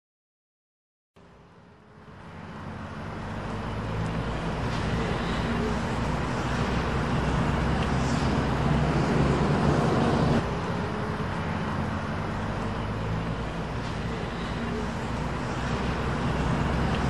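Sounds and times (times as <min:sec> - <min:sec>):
road traffic: 0:01.2 - 0:17.0
vehicle engine humming: 0:01.2 - 0:17.0.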